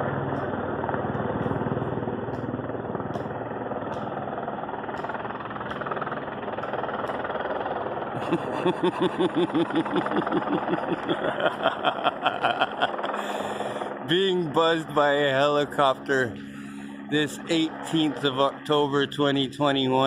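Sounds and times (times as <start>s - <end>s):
helicopter flying overhead: 0.0s - 20.0s
helicopter rotor chop: 0.0s - 20.0s.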